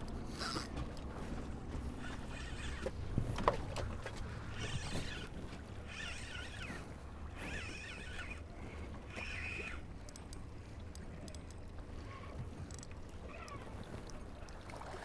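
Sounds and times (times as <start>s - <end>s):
fishing reel ticks and squeaks: 0.0s - 1.1s, 2.0s - 3.0s, 4.5s - 14.6s
water around a boat: 0.0s - 15.0s
wind: 0.0s - 15.0s.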